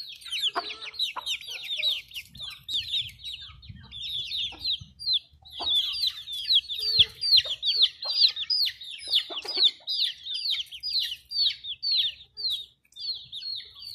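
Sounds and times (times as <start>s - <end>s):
chicken clucks: 0.0s - 13.9s
chicks peeping: 0.0s - 13.9s.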